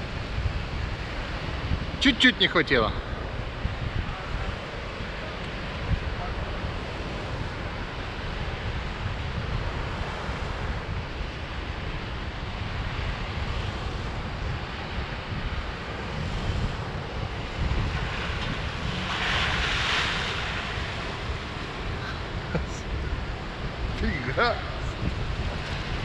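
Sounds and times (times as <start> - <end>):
breaking surf: 0.0 - 26.0
vehicle driving through water: 0.0 - 26.0
wind buffeting microphone: 0.0 - 26.0.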